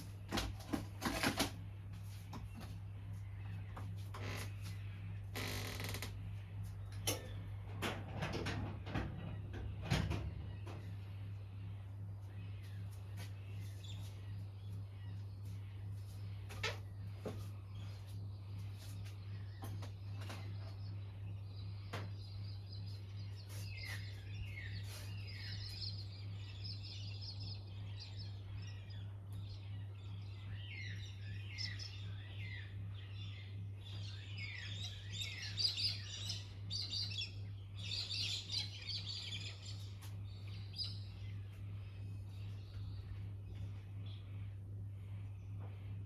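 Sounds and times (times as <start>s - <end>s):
songbirds chirping: 0.0s - 46.0s
steady low hum: 0.0s - 46.0s.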